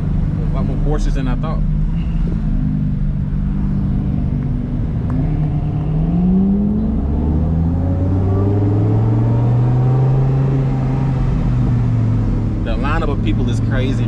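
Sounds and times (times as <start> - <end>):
car engine accelerating: 0.0 - 14.0
road noise: 0.0 - 14.0.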